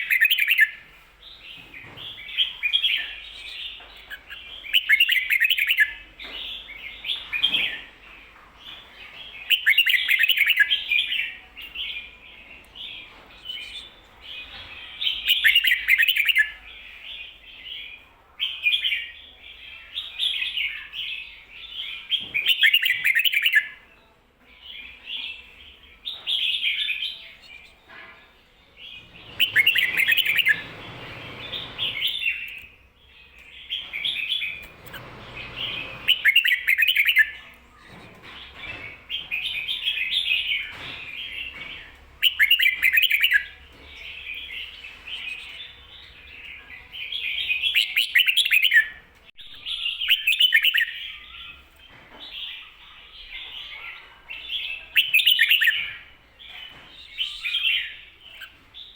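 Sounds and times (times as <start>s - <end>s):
bird singing warbled phrases: 0.0s - 24.0s, 28.7s - 58.9s.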